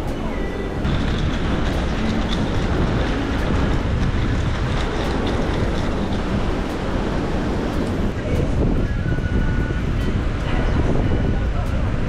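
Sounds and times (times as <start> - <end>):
sea surf: 0.0 - 12.0
wind buffeting microphone: 0.0 - 12.0.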